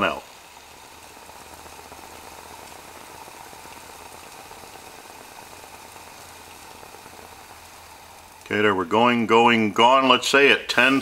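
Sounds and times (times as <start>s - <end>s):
water simmering with bubbling hiss: 0.0s - 11.0s.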